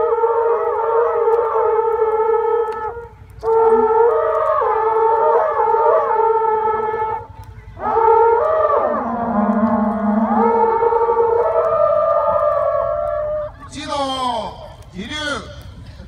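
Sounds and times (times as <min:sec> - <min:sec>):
conch shell trumpets blowing: 0:00.0 - 0:13.6.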